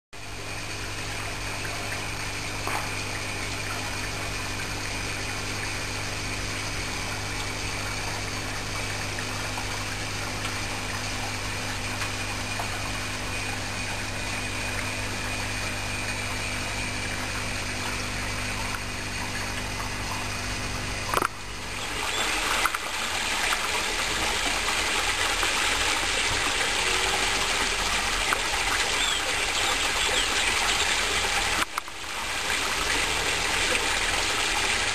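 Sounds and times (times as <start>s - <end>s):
electric pump hum: 0.2s - 34.9s
waterfall rushing into pond: 0.2s - 34.9s
water gushing and splashing: 0.5s - 34.9s.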